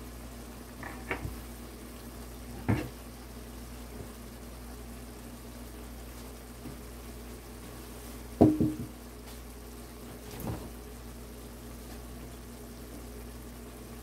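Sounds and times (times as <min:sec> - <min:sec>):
stew simmering in a pan: 0:00.0 - 0:14.0.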